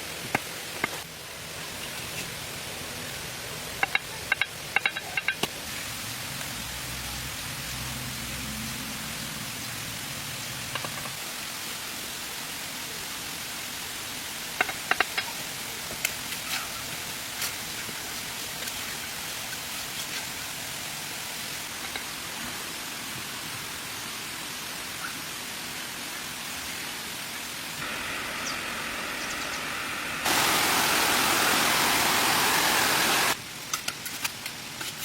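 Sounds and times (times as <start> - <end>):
steady even hiss: 0.0 - 35.0.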